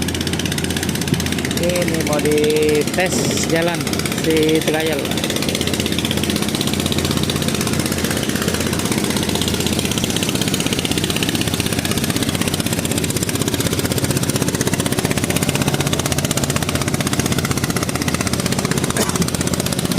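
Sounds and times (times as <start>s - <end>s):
outboard engine running: 0.0s - 19.9s.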